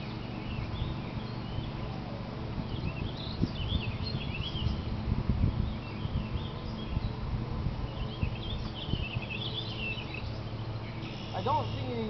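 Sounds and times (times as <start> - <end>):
birds chirping: 0.0 - 12.0
low steady rumble: 0.0 - 12.0.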